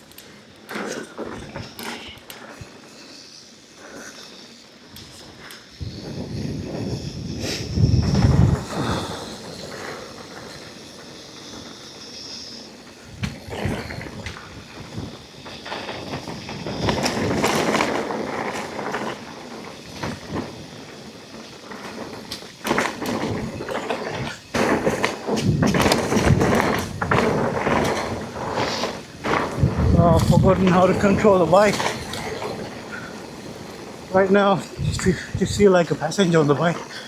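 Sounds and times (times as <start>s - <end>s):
bike knocking and rattling: 0.0s - 37.0s
bike tyres rolling over dirt: 0.0s - 37.0s.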